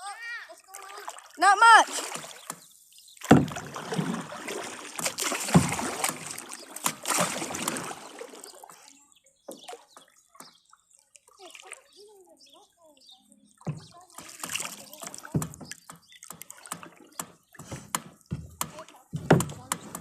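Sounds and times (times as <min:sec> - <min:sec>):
paddle strokes splashing in water: 0:00.5 - 0:12.4, 0:13.5 - 0:20.0.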